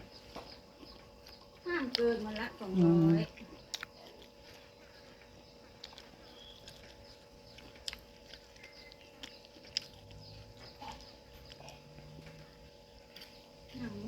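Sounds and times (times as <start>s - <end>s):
faint chewing: 0.0s - 14.0s
steady low hum: 0.0s - 14.0s.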